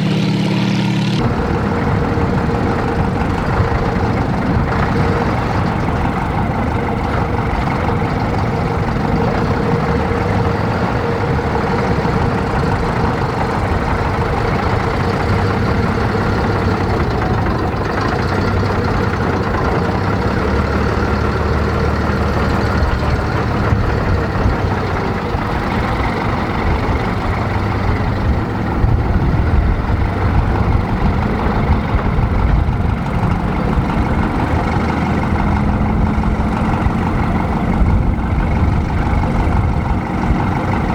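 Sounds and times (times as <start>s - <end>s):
heavy military vehicle engines: 0.0s - 40.9s.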